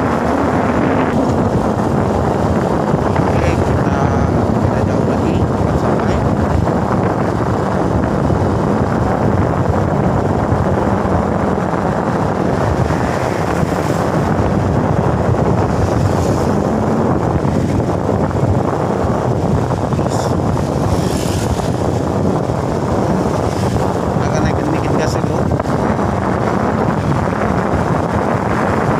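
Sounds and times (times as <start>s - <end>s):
motorcycle engine running: 0.0s - 28.9s
wind buffeting microphone: 0.0s - 28.9s.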